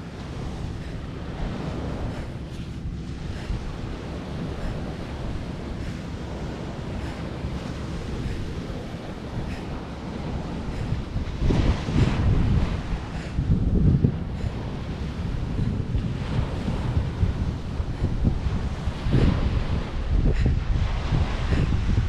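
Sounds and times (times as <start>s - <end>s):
gusty wind buffeting microphone: 0.0s - 22.0s
surf washing on beach: 0.0s - 22.0s.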